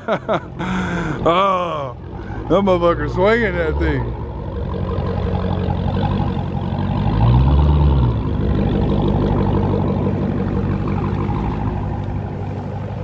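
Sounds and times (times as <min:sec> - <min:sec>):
car engine heavy drone: 0:00.0 - 0:13.0.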